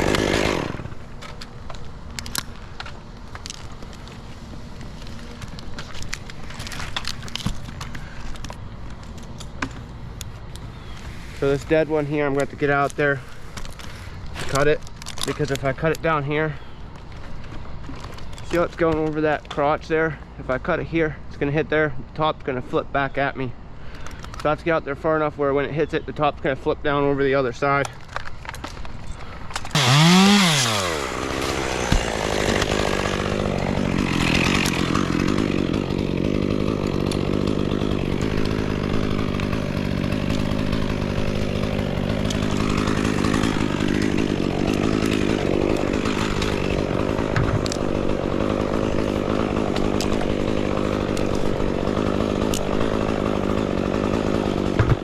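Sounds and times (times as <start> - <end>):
chainsaw revving and idling: 0.0 - 10.0, 10.6 - 16.7, 17.4 - 21.2, 29.6 - 55.0.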